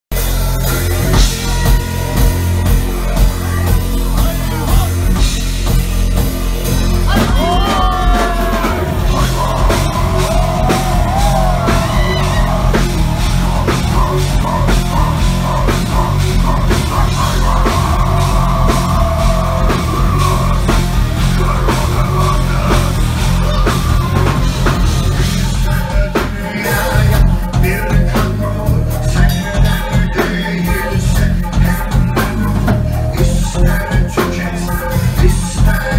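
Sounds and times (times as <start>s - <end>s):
heavy metal band playing: 0.1s - 35.9s
pounding drum beat: 0.1s - 35.9s.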